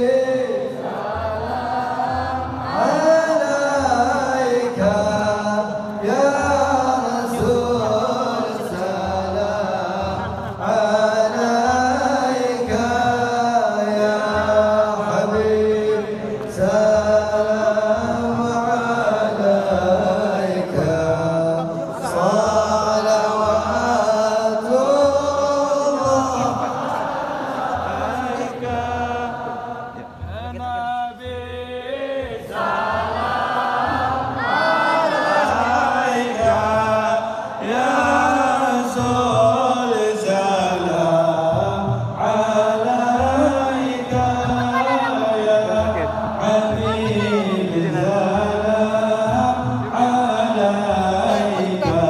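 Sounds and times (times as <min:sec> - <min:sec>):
men chanting together: 0:00.0 - 0:52.0.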